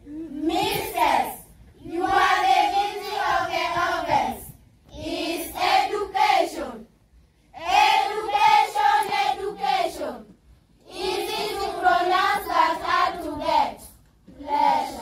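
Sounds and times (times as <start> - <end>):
children singing unaccompanied: 0.5 - 6.7, 7.6 - 15.0.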